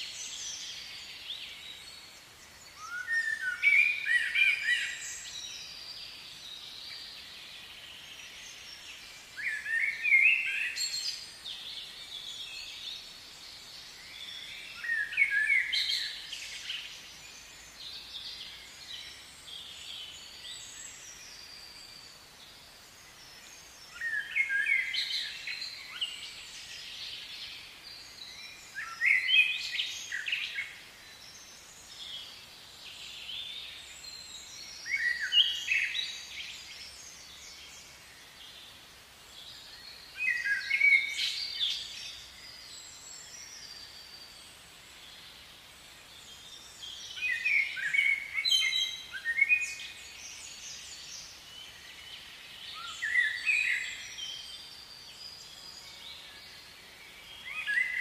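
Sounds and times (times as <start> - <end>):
faint outdoor background noise: 0.0 - 58.0
songbird singing: 0.0 - 58.0.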